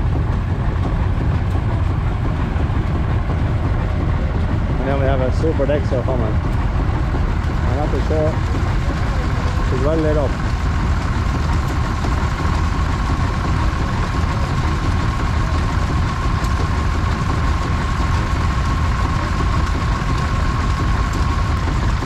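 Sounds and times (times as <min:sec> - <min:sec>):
thin steady whine: 0:00.0 - 0:22.0
tractor engines rumbling: 0:00.0 - 0:22.0.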